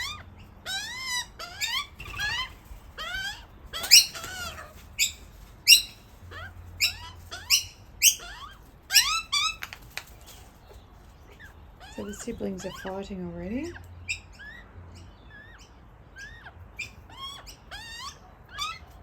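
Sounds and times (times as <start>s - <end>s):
young magpies squawking: 0.0s - 10.0s, 11.3s - 19.0s.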